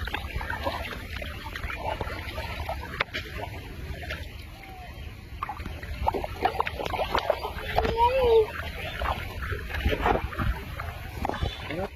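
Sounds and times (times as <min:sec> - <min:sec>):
water sloshing and splashing: 0:00.0 - 0:11.9.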